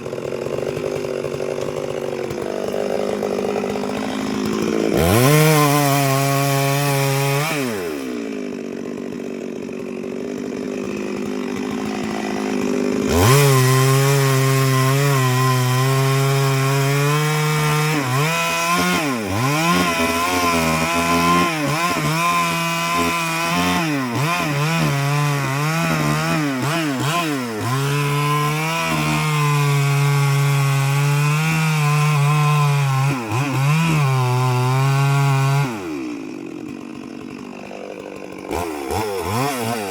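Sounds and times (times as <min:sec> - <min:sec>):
chainsaw revving and cutting wood: 0:00.0 - 0:39.9.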